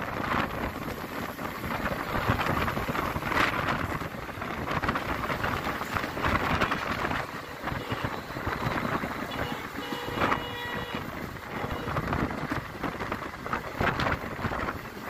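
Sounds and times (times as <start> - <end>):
train wheels rumbling on rails: 0.0 - 15.0
wind buffeting microphone: 0.0 - 15.0.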